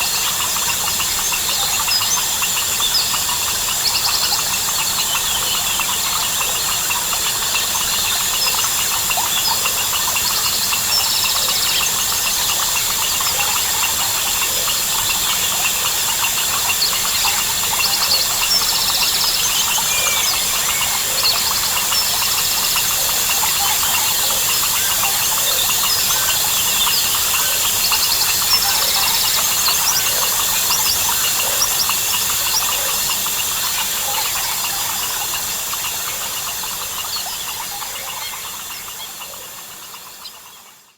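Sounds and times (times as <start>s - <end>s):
frog calls: 0.0s - 40.9s
high insect drone: 0.0s - 40.9s.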